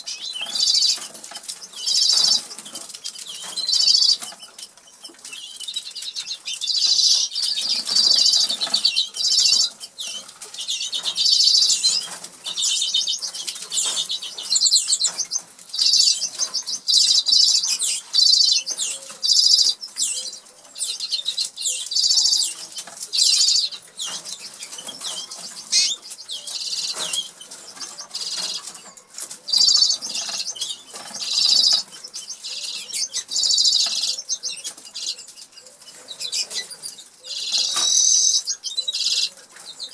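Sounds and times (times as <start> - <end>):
canaries trilling: 0.0 - 39.9.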